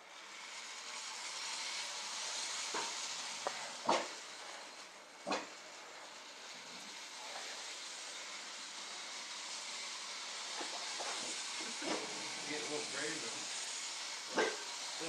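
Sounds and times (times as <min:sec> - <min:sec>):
toy train running on track: 0:00.0 - 0:15.0.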